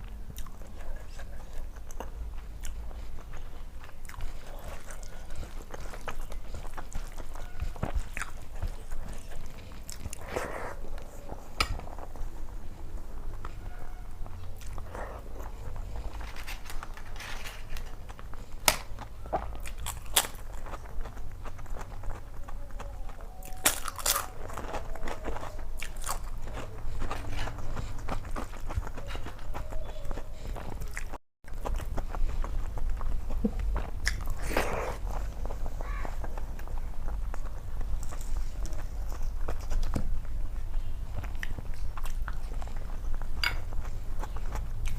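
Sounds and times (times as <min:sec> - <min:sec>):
crunches of crisp food: 0:00.0 - 0:44.9
low steady hum: 0:00.0 - 0:44.9
wet chewing: 0:00.0 - 0:44.9.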